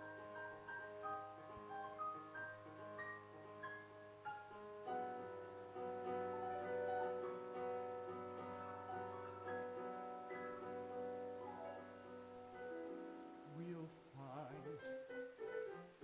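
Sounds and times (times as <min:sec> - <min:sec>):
piano playing chords: 0:00.0 - 0:16.0.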